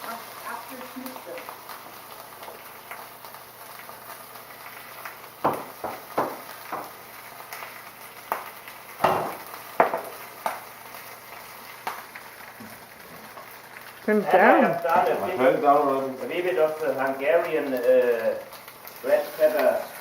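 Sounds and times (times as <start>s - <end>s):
food cooking hiss: 0.0s - 20.0s.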